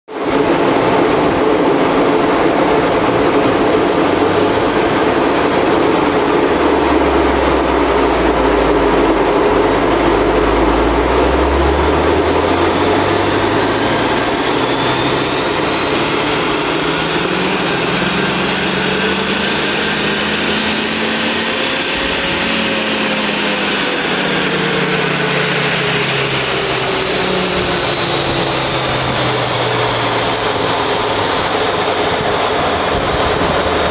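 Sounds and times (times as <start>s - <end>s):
car engine revving: 0.2s - 33.9s.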